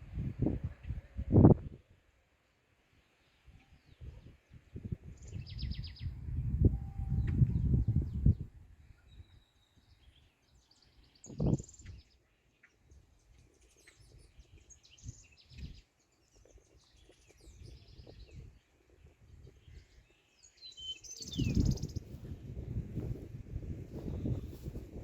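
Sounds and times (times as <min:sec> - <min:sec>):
wind rumbling on microphone: 0:00.0 - 0:02.0, 0:03.5 - 0:12.2, 0:12.8 - 0:25.0
songbirds chirping: 0:00.4 - 0:25.0.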